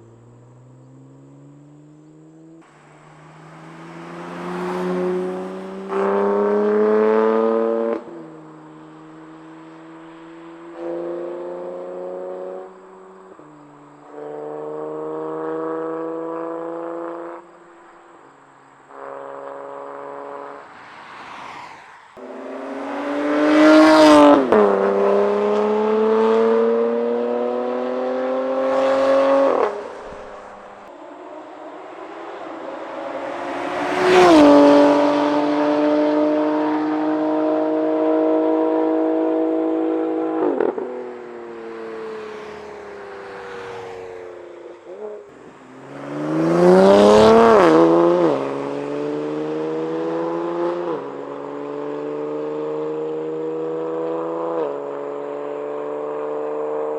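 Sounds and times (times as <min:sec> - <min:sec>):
car accelerating past: 0:00.0 - 0:17.8, 0:18.9 - 0:56.9.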